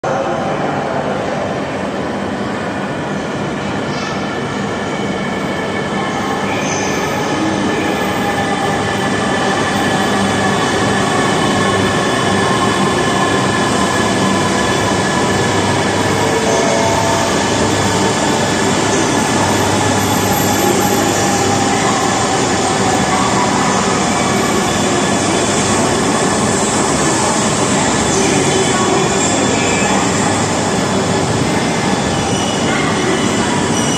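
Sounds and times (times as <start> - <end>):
train pulling into platform: 0.0 - 33.9.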